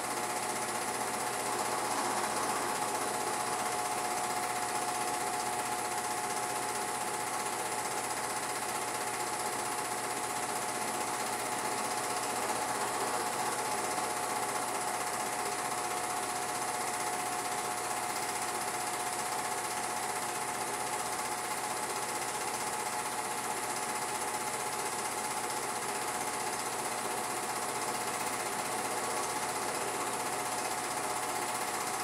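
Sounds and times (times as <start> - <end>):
film projector rattle and whir: 0.0 - 32.0.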